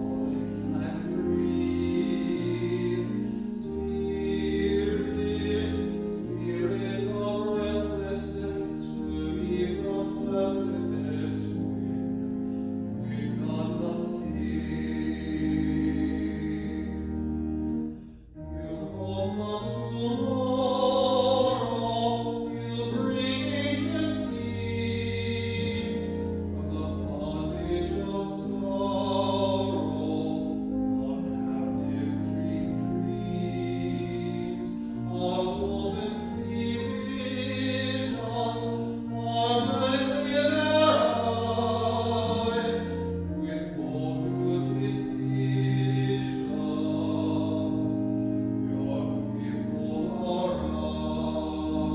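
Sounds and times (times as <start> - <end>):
held accompaniment chords: 0.0 - 51.9.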